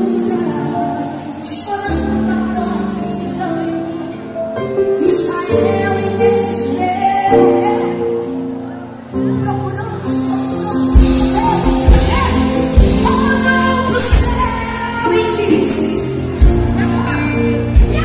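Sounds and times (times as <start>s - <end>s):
woman singing gospel song: 0.0s - 4.0s, 5.0s - 8.1s, 9.5s - 18.0s.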